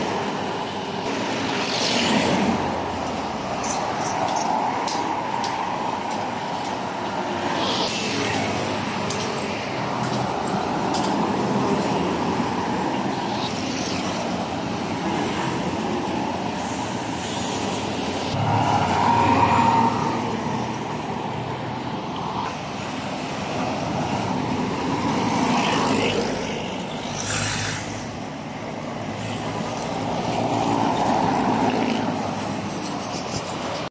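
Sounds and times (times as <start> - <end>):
highway traffic rumble: 0.0 - 33.9.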